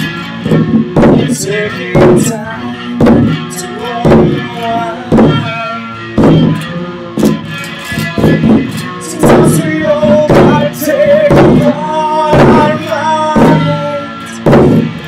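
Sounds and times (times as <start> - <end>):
drum beating: 0.0 - 15.0
electric guitar: 0.0 - 15.0
person singing wordless notes: 1.2 - 14.4.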